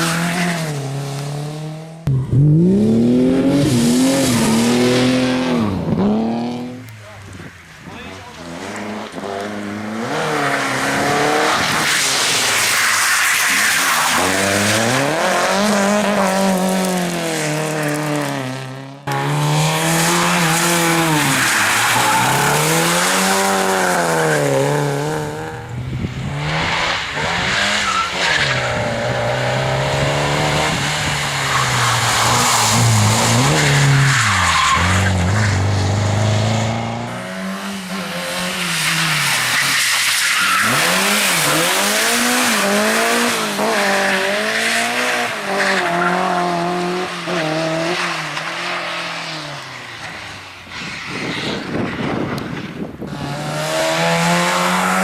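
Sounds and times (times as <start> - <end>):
race car engines revving: 0.0 - 55.0
tyres skidding: 0.0 - 55.0.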